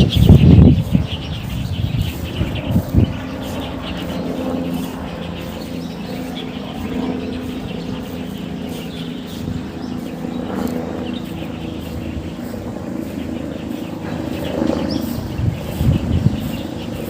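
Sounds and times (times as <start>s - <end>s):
birds chirping: 0.0s - 17.0s
low engine drone: 0.0s - 17.0s.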